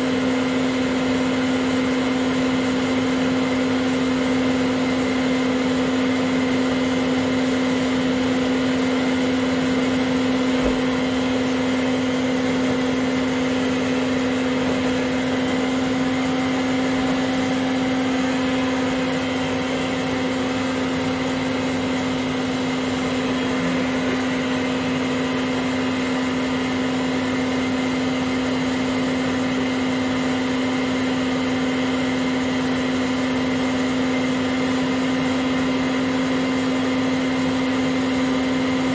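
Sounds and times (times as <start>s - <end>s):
vacuum cleaner motor hum: 0.0s - 38.9s.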